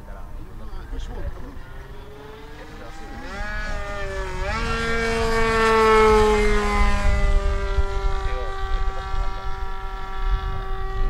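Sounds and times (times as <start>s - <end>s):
model airplane motor drone: 0.0s - 11.0s.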